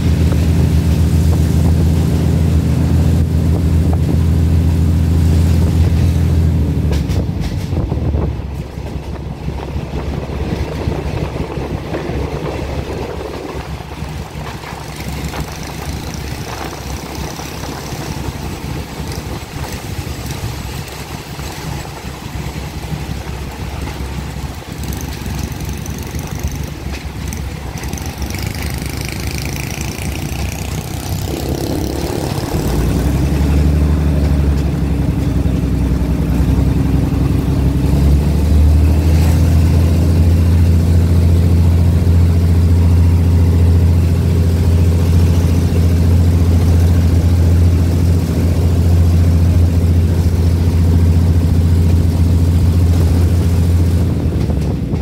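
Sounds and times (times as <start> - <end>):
diesel train engine hum: 0.0 - 55.0.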